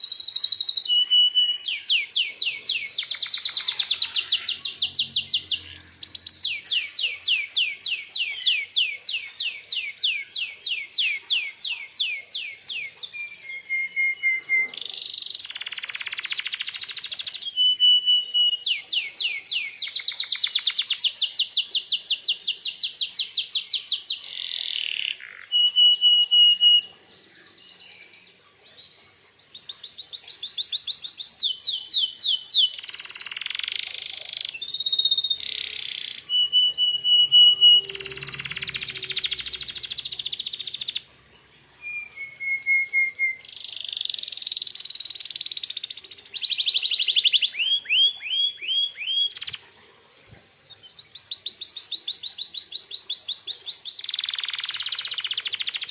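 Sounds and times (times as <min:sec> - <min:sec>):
canary singing: 0:00.0 - 0:27.0, 0:28.7 - 0:41.2, 0:41.8 - 0:49.6, 0:50.7 - 0:55.9.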